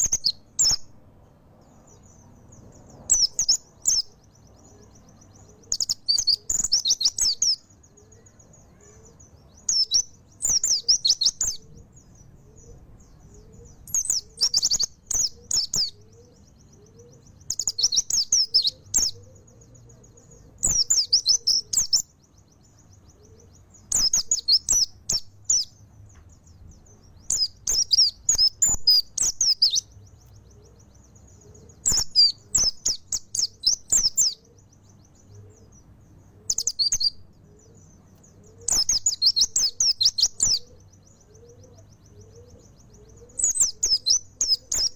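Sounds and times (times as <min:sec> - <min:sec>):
bird warbling chirps: 0:00.0 - 0:01.0, 0:01.9 - 0:25.8, 0:26.6 - 0:44.9.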